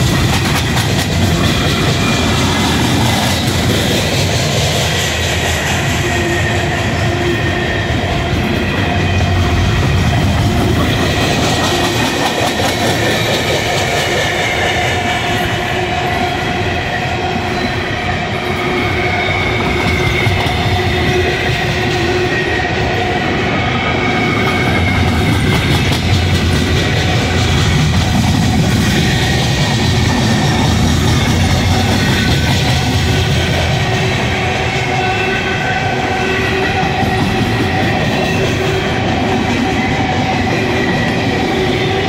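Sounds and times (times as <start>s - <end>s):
train wheels rumbling and clattering: 0.0s - 42.0s.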